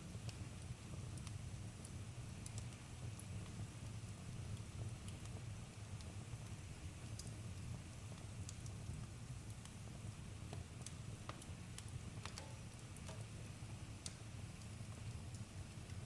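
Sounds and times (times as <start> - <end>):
campfire flame rumble: 0.0 - 16.0
wood crackling and popping: 0.0 - 16.0.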